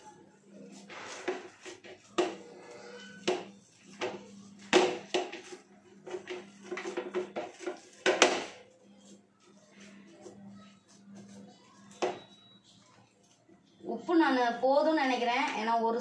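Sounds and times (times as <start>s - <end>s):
hand mixing dough in a bowl: 0.0s - 16.0s.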